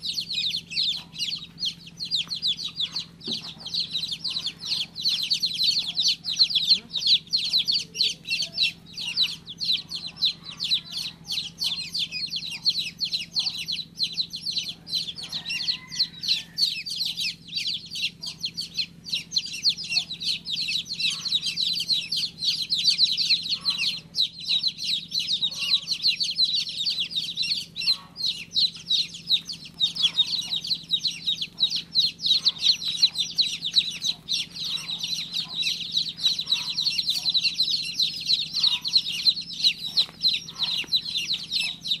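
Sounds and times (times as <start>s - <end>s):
baby chicks peeping: 0.0s - 42.0s
steady low hum: 0.0s - 42.0s.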